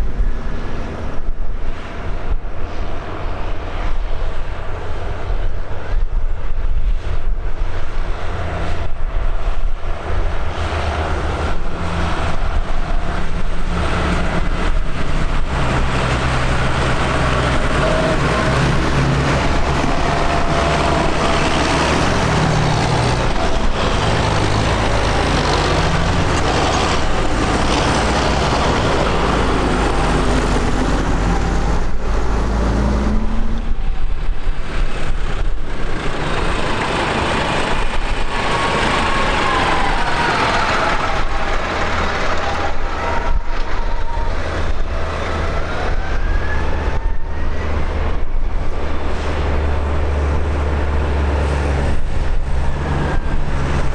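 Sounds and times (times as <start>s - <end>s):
tractor engines driving past: 0.0s - 53.9s.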